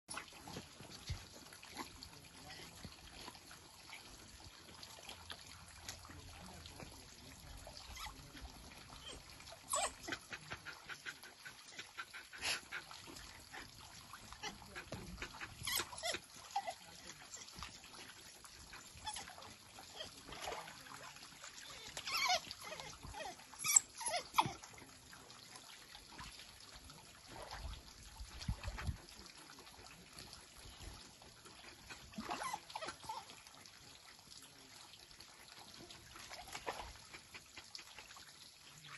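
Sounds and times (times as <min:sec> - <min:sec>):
dogs splashing in water: 0:00.1 - 0:38.9
water trickling: 0:00.1 - 0:38.9.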